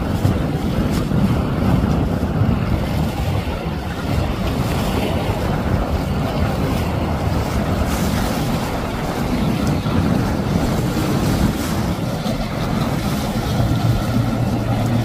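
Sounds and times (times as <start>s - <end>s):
motorboat engine: 0.0s - 15.0s
spray and waves rushing: 0.0s - 15.0s
wind buffeting microphone: 0.0s - 15.0s.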